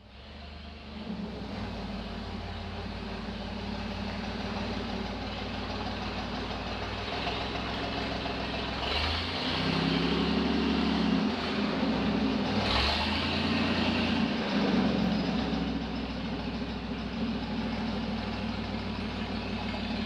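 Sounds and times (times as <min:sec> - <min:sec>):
misfiring car engine running: 0:00.0 - 0:20.0.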